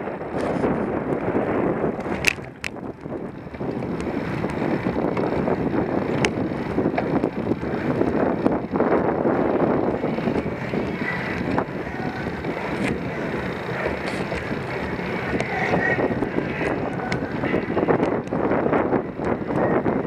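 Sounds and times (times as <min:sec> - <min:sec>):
road noise: 0:00.0 - 0:20.0
wind on microphone: 0:00.0 - 0:20.0.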